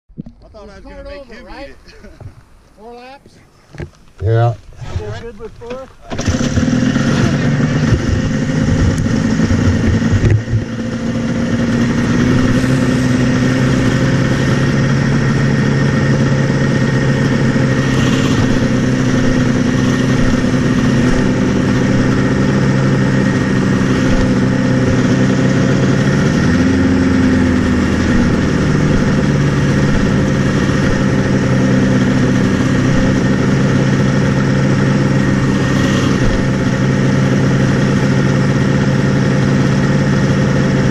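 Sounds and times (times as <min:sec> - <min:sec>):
snowmobile engine idling: 0:00.6 - 0:03.2, 0:04.2 - 0:40.9
engine revving: 0:06.1 - 0:40.9.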